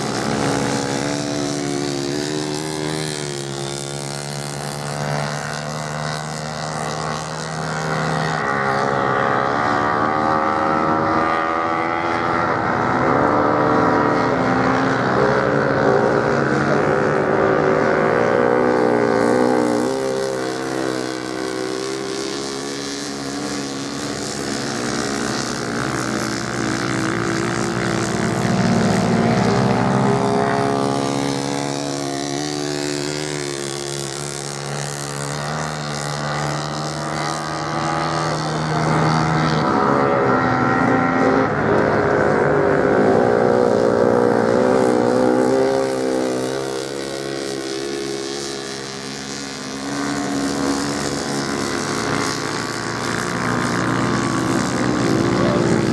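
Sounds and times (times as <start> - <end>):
racing motorcycle engines revving: 0.0 - 55.9
steady engine hum: 0.0 - 55.9.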